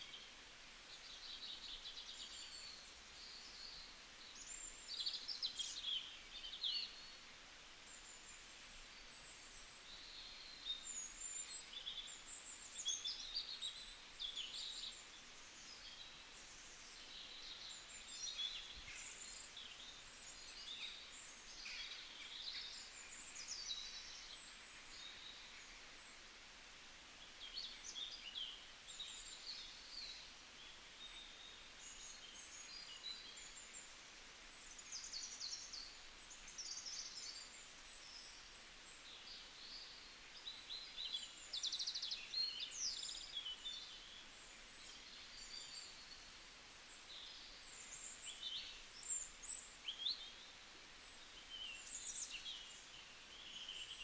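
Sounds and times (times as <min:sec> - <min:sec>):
faint steady hiss: 0:00.0 - 0:54.0
songbirds chirping: 0:00.0 - 0:54.0.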